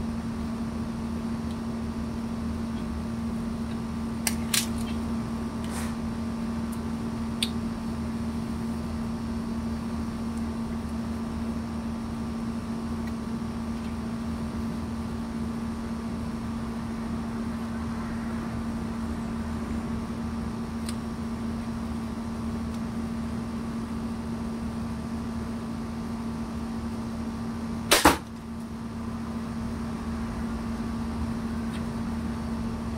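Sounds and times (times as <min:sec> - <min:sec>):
air conditioning unit humming: 0:00.0 - 0:32.9.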